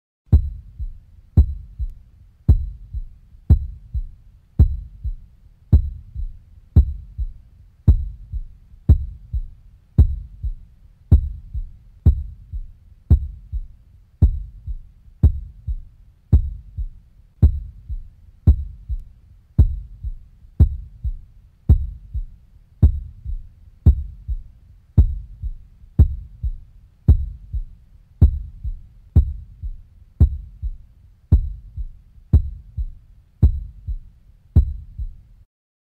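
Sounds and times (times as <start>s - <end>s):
heartbeat thumping: 0.3s - 35.3s.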